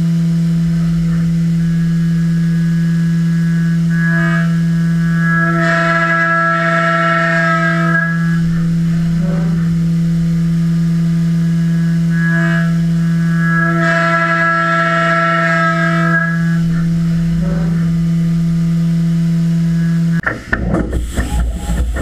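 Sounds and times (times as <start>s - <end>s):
high whine: 0.0s - 22.0s
milling machine droning: 0.0s - 22.0s.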